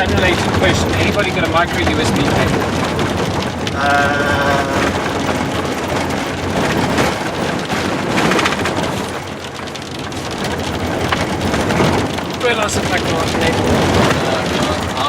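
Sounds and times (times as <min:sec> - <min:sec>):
tyres rumbling on dirt road: 0:00.0 - 0:15.0
vehicle rattling and jolting: 0:00.0 - 0:15.0.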